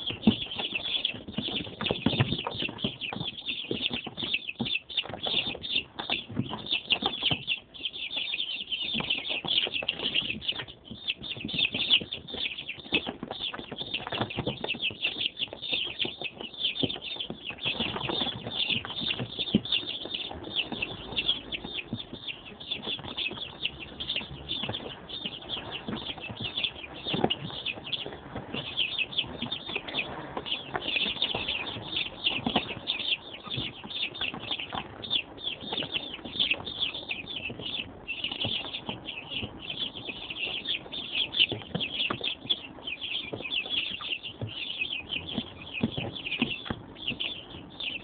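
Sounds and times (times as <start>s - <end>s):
chicks peeping: 0.0s - 48.0s
chicks rustling on cardboard: 0.0s - 48.0s.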